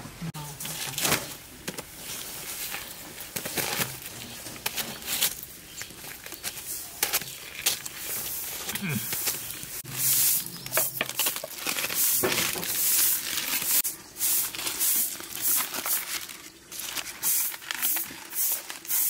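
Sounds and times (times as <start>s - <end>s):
aluminium foil crinkling: 0.5s - 19.0s.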